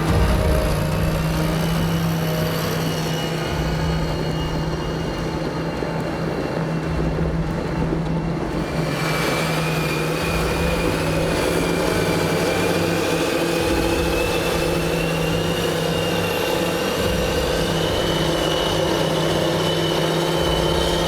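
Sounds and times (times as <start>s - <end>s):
high whine: 0.0s - 20.5s.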